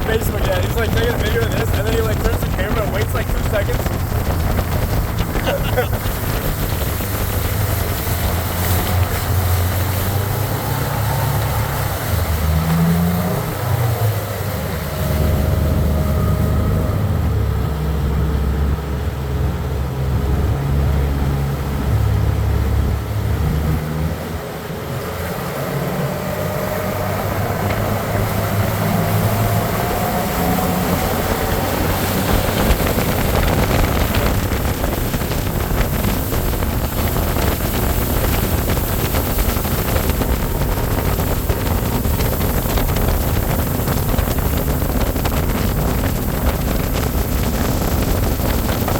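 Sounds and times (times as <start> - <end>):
outboard motor running: 0.0 - 48.9
wind and water rushing: 0.0 - 48.9.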